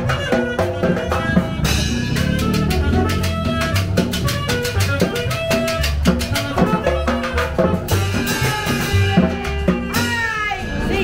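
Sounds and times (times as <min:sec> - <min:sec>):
held melodic line: 0:00.0 - 0:10.1
upright double bass: 0:00.0 - 0:10.2
drum kit and timbales beat: 0:00.0 - 0:11.0.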